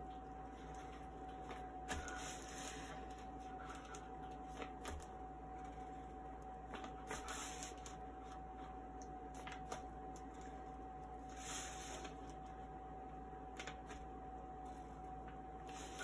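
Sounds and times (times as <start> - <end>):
steady faint hum: 0.0 - 16.0.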